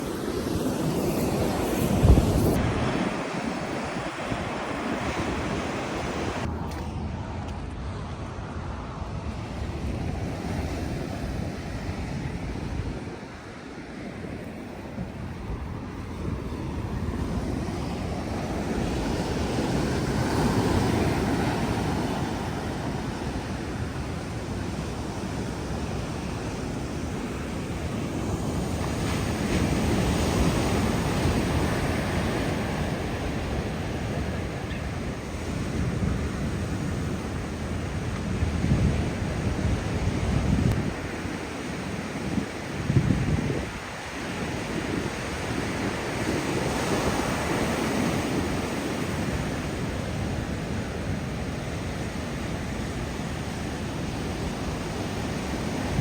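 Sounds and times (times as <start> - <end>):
surf breaking and washing ashore: 0.0 - 56.0
wind buffeting microphone: 0.0 - 56.0.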